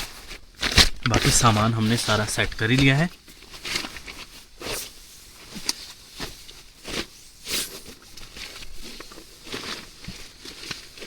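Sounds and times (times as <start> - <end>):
plastic tarp rustling: 0.0 - 11.0.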